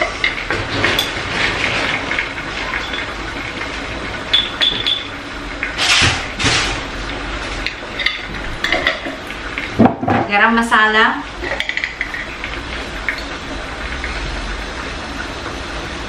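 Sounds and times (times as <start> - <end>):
gravy sizzling in a wok: 0.0 - 9.8, 10.5 - 16.0.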